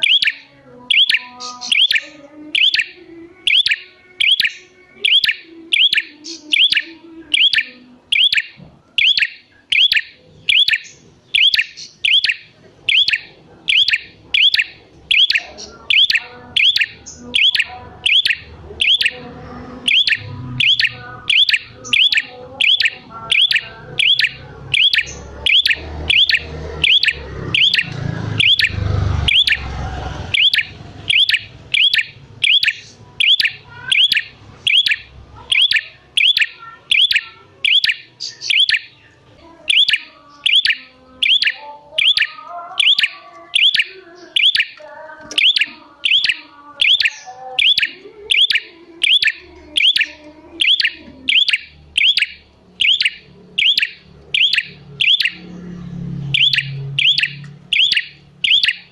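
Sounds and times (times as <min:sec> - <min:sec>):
bird chirping: 0:00.0 - 0:58.9.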